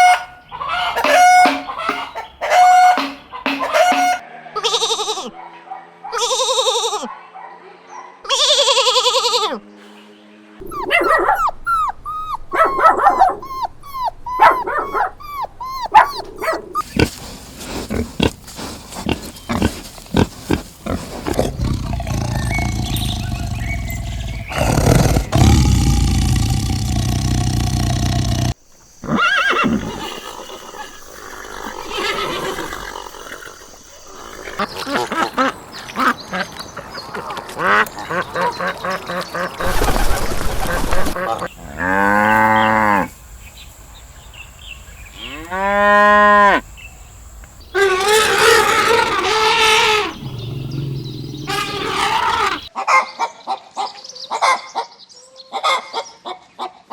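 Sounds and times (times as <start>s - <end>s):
farm animal calls: 0.0s - 5.4s, 10.6s - 43.2s, 45.0s - 46.8s, 47.7s - 54.8s.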